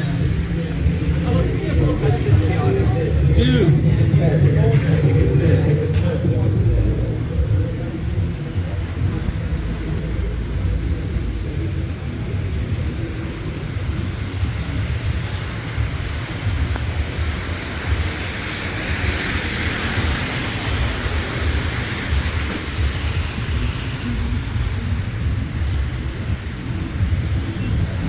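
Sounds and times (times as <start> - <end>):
tyres hissing on slushy road: 0.0 - 5.1, 5.7 - 28.0
low traffic rumble: 0.0 - 28.0.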